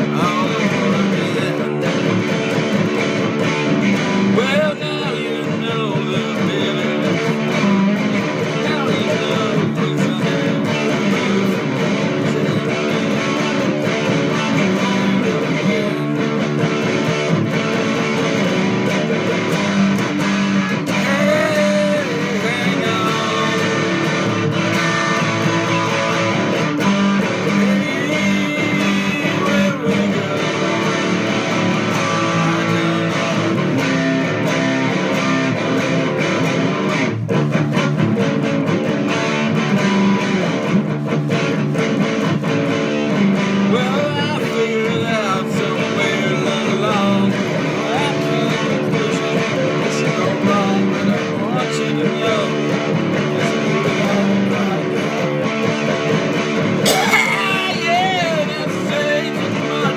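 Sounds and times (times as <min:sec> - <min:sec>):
strummed and plucked guitar: 0:00.0 - 0:59.9.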